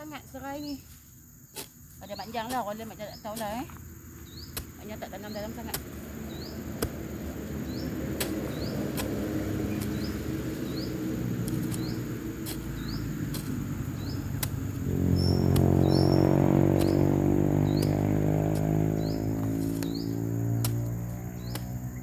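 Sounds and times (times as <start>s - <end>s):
high insect drone: 0.0s - 22.0s
hoe chopping into soil: 0.9s - 22.0s
engine hum: 2.0s - 22.0s.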